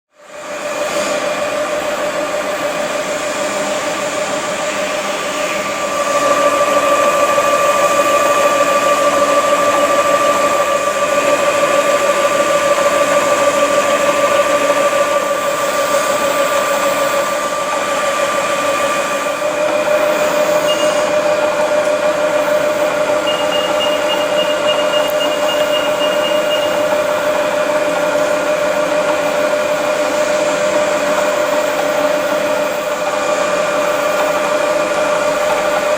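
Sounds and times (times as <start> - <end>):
milling machine whine: 0.2 - 35.9.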